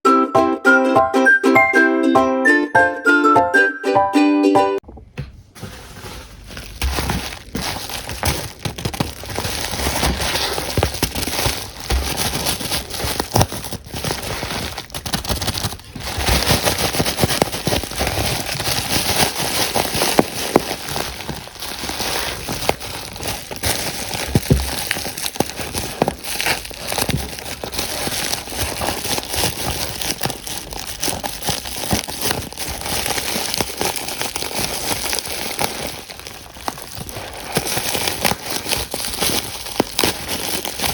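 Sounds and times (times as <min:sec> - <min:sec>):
plastic packaging crinkling: 0:05.4 - 0:40.9.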